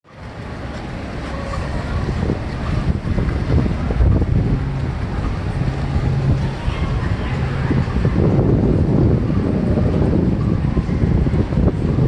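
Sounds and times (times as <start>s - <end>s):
boat engines rumbling: 0.0s - 12.0s
wind buffeting microphone: 0.1s - 12.0s.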